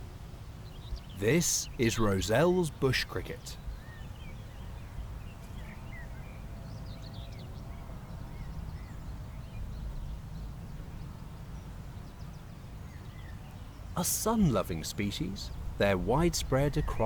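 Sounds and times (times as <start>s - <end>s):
low rumble of wind: 0.0s - 17.0s
small birds chirping: 0.0s - 17.0s.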